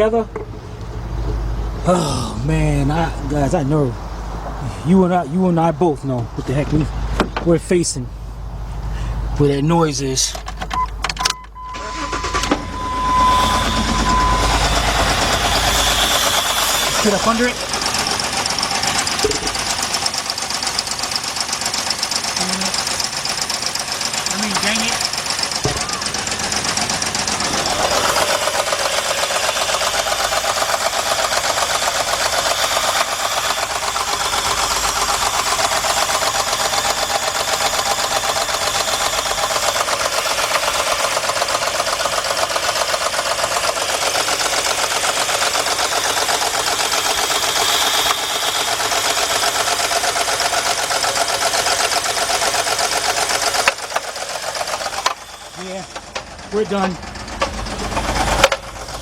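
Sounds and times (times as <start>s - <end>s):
engine running with metallic knocking: 0.0s - 1.9s, 12.2s - 59.0s.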